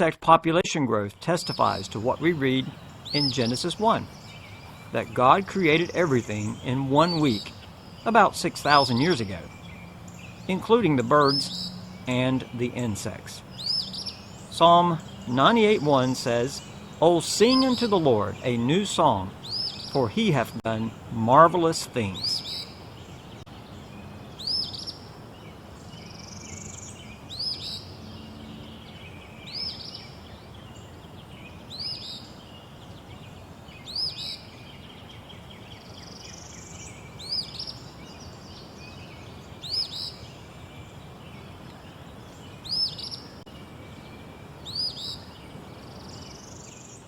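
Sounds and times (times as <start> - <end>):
low background noise: 0.0 - 47.0
songbirds chirping: 0.0 - 47.0.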